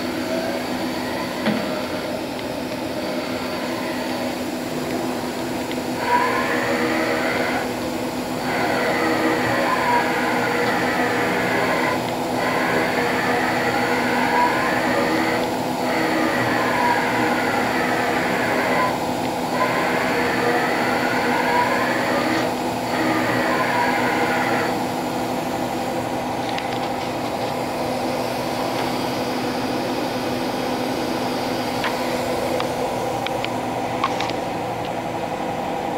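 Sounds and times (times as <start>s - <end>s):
machine table servo whine: 0.0s - 33.2s
steady machine hum: 0.0s - 35.9s.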